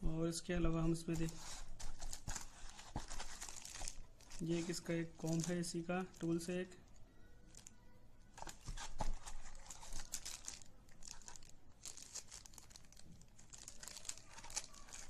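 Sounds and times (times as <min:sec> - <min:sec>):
plastic bag crinkling: 0:00.9 - 0:06.8, 0:07.4 - 0:07.8, 0:08.4 - 0:15.0.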